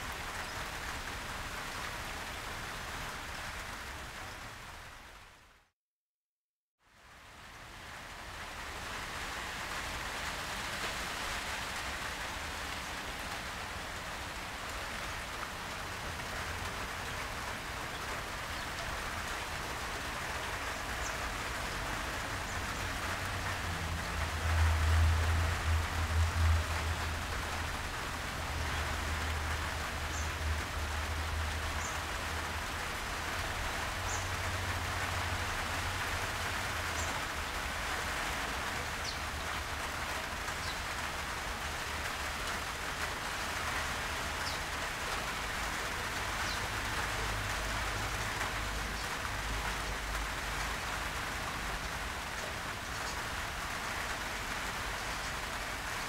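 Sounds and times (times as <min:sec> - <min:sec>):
heavy rain: 0:00.0 - 0:05.7, 0:06.8 - 0:56.0.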